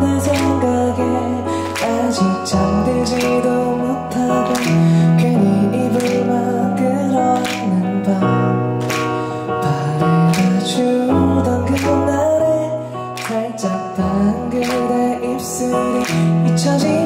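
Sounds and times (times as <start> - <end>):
electric guitar chords: 0.0 - 17.0
man singing: 0.0 - 17.0.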